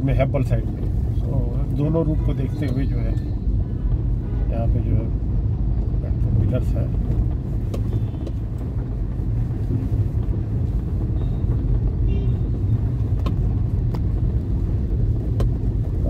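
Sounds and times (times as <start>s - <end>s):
vehicle rumble in traffic: 0.0s - 16.0s.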